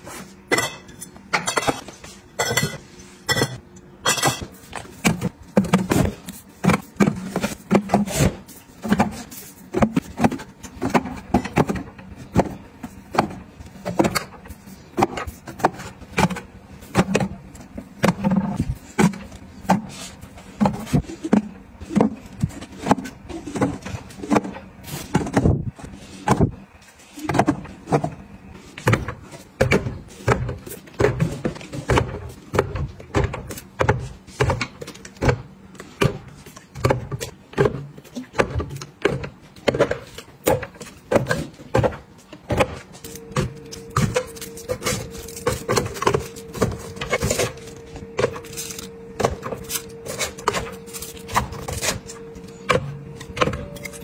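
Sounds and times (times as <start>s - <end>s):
bottles clinking in metal baskets: 0.5s - 25.5s, 28.9s - 54.0s.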